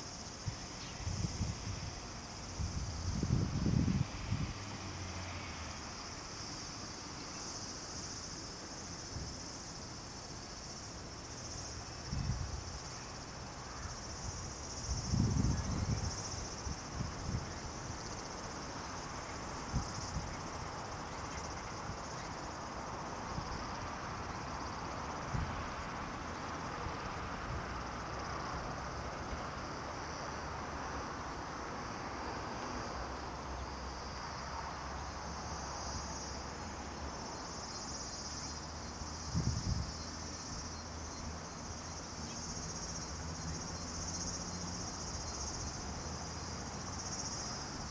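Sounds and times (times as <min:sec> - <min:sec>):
insects chirring: 0:00.0 - 0:47.9.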